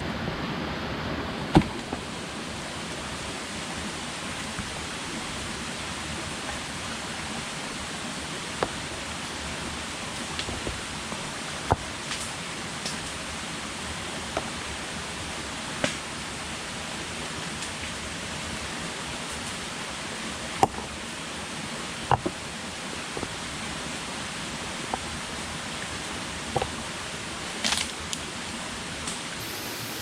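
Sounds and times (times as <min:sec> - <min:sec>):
rain hissing: 0:00.0 - 0:30.0.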